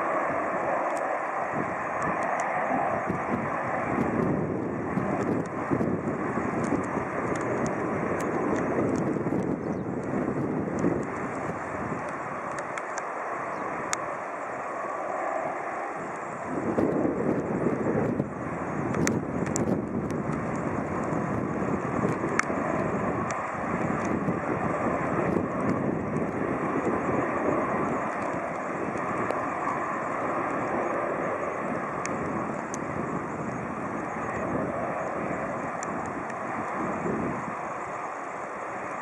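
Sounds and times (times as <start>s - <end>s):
jet engines roaring: 0.0s - 39.0s.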